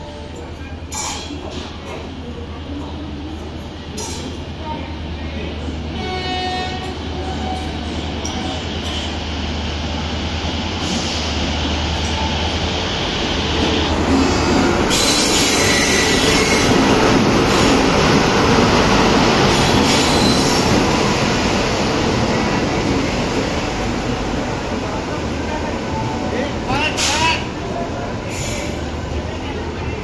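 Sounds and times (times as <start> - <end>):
train rolling past: 0.0 - 30.0.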